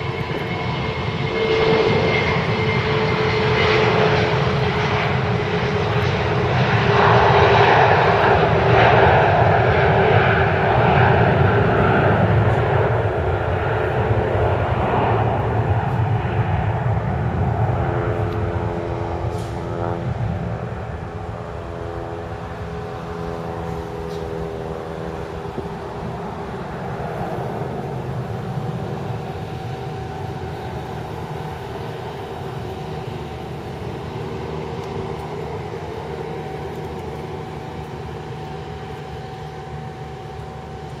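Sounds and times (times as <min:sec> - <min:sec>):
jet engine whining tones: 0:00.0 - 0:41.0
jet engines rumbling: 0:00.0 - 0:41.0.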